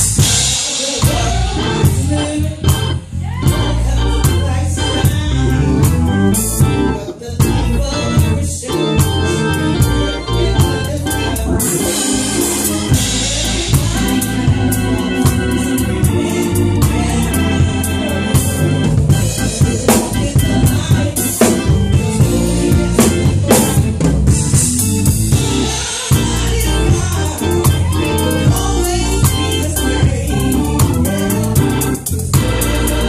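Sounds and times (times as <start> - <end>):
drum kit steady beat: 0.0 - 33.0
organ playing: 0.0 - 33.0
choir singing: 0.2 - 5.8, 8.4 - 24.3, 25.3 - 33.0.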